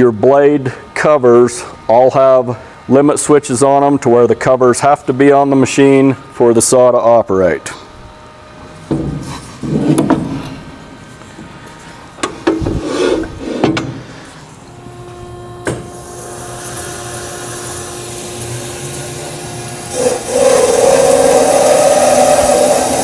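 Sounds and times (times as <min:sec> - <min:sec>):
band saw machinery humming: 0:00.0 - 0:23.0.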